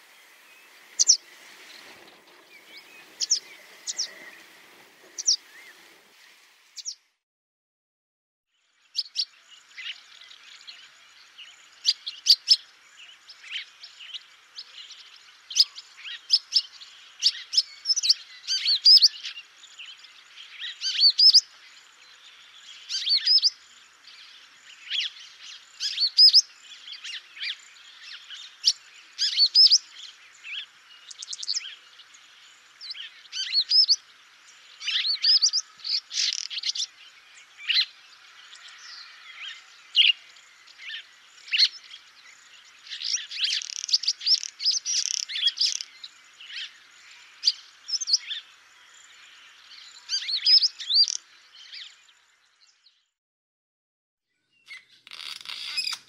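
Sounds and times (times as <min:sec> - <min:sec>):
swallow twittering chirps: 0:00.0 - 0:06.0, 0:09.0 - 0:52.9.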